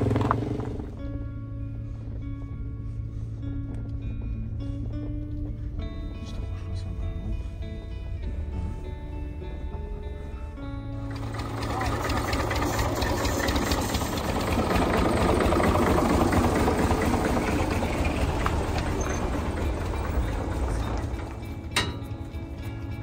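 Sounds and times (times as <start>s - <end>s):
tractor engine idling: 0.0s - 6.2s, 9.9s - 23.0s.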